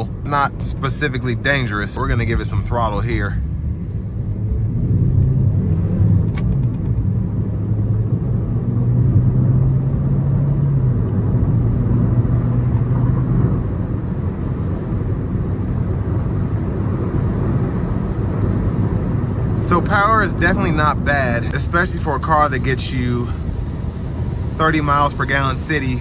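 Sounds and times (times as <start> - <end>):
car engine accelerating: 0.0 - 26.0
road and tyre noise: 0.0 - 26.0.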